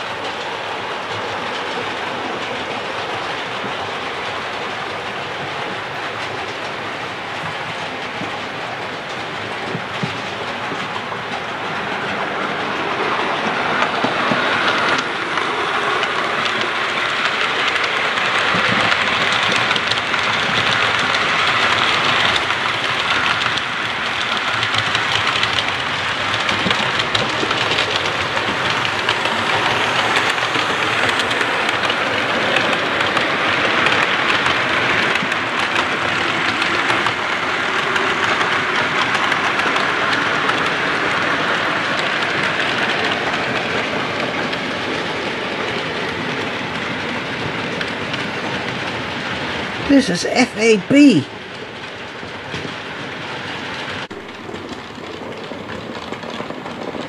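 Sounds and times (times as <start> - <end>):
train wheels clattering on rails: 0.0 - 50.3, 51.2 - 57.0.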